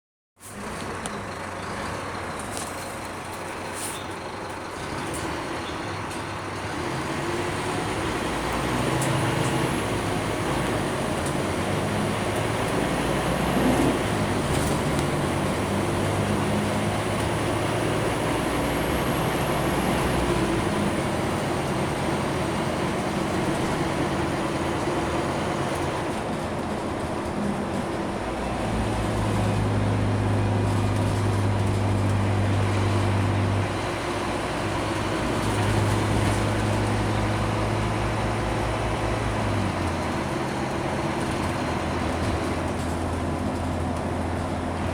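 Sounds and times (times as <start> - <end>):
bus diesel engine running: 0.4 - 44.9
road noise: 0.4 - 44.9.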